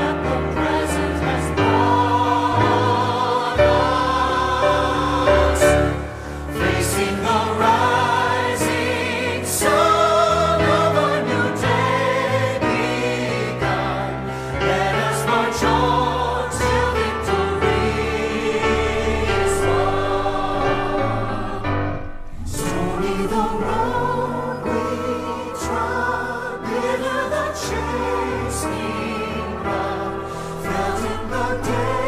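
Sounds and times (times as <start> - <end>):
bass accompaniment: 0.0 - 32.0
choir singing gospel song: 0.0 - 32.0.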